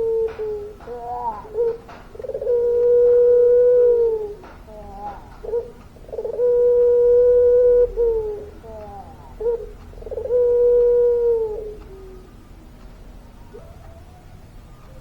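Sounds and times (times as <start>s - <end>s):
dove cooing: 0.0s - 12.4s, 13.3s - 15.0s.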